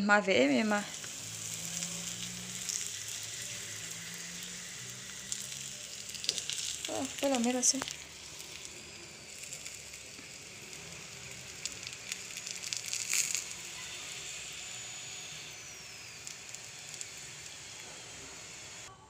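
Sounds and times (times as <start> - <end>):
batter sizzling in frying pan: 0.4 - 18.9
oil popping: 0.8 - 18.9.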